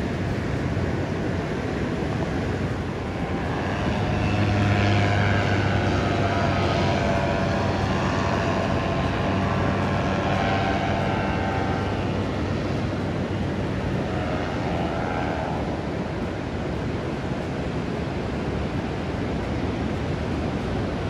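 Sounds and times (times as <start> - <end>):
paramotor engine droning overhead: 0.0 - 21.0.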